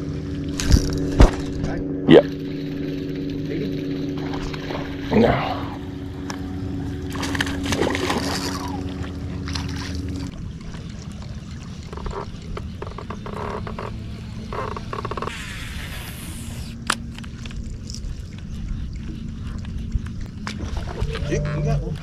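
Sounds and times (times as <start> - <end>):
electric trolling motor humming: 0.0 - 22.0
wind rumble on microphone: 0.0 - 22.0.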